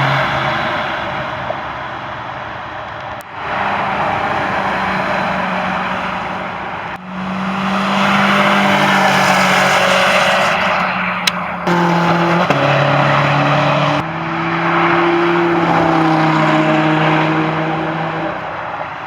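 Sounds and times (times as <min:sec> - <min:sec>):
sports car engine: 0:00.0 - 0:19.0.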